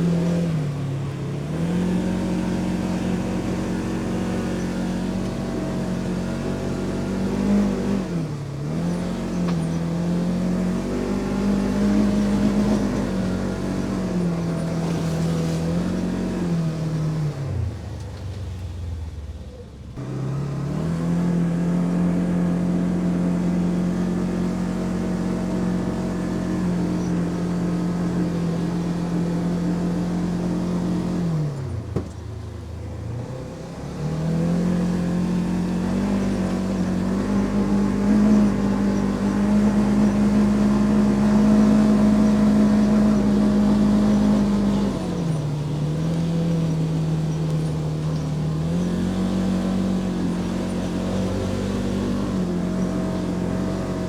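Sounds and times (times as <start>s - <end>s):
utility vehicle engine under load: 0.0s - 54.0s.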